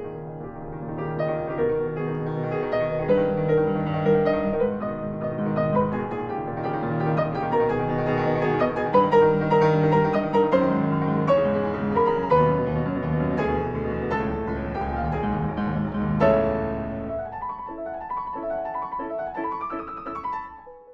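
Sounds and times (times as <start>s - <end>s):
piano music: 0.0s - 20.9s.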